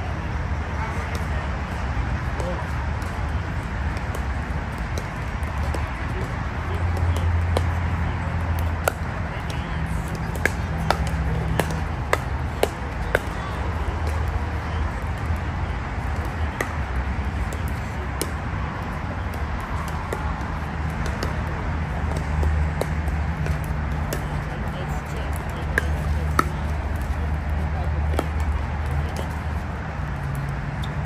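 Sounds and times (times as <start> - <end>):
paddles hitting plastic ball: 2.3 - 31.0.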